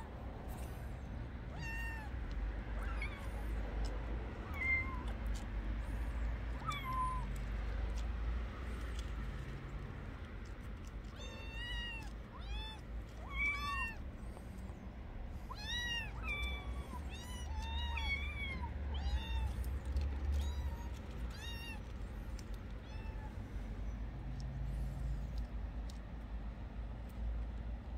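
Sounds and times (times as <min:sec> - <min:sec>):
kittens mewing: 0:00.0 - 0:26.0.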